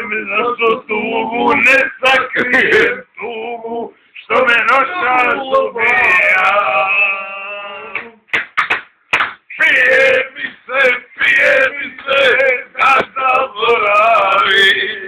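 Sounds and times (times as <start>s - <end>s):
men singing unaccompanied: 0.0s - 8.2s, 9.5s - 15.0s.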